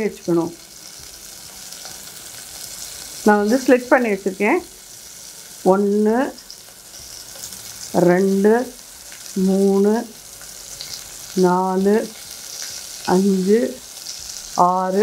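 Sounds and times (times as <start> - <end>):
oil sizzling in a pot: 0.0 - 15.0.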